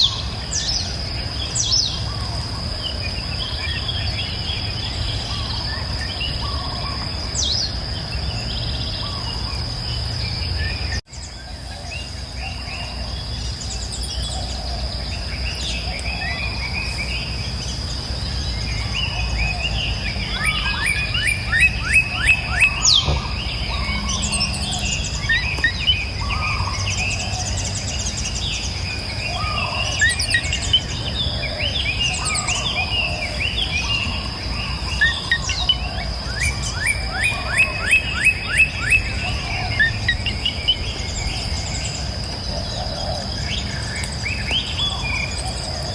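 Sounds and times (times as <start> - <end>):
birds chirping and singing: 0.0 - 45.9
high-pitched insect drone: 8.9 - 45.9.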